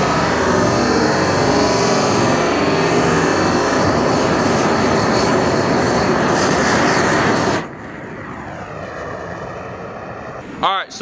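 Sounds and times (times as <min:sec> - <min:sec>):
gas flame blasting: 0:00.0 - 0:10.7
steady background noise: 0:00.0 - 0:11.0.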